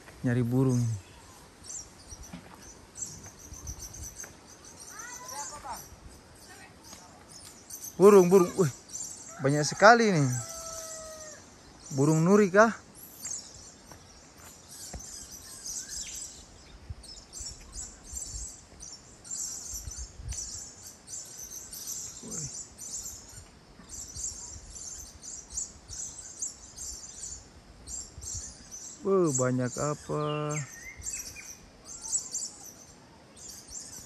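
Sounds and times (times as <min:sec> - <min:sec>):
lorikeets chirping: 0:00.0 - 0:34.0.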